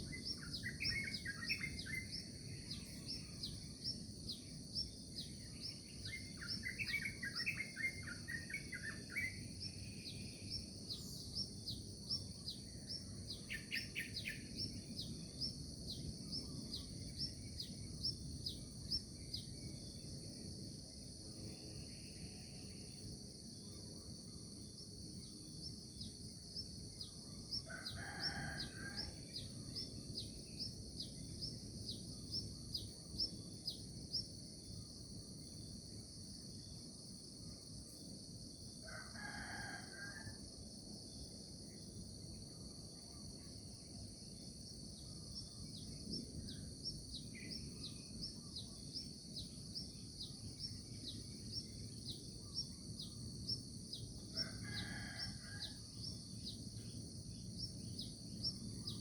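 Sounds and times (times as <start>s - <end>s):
high drone of insects: 0.0s - 59.0s.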